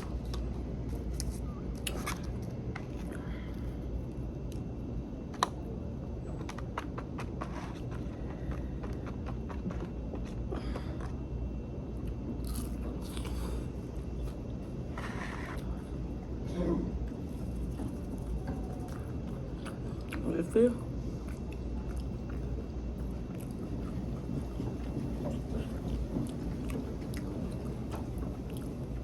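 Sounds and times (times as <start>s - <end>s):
crunching and chewing food: 0.0s - 16.3s, 17.0s - 29.0s
low hum: 0.0s - 29.0s.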